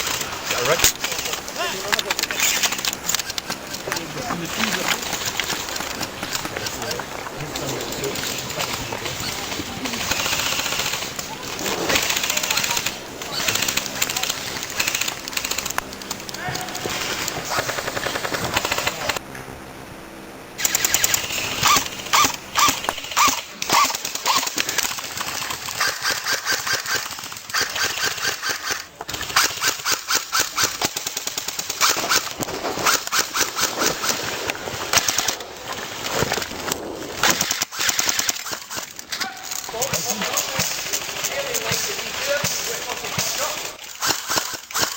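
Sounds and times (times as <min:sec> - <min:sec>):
airsoft guns firing rapid bursts: 0:00.0 - 0:19.2, 0:20.6 - 0:44.9.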